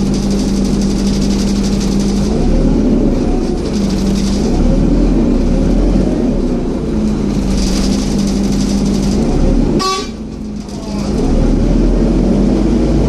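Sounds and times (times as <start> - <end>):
steady hum: 0.0 - 12.2
radiator cooling fan whirring: 0.0 - 12.8
bus engine running: 0.0 - 13.0
constant rumble and hiss: 0.0 - 13.0.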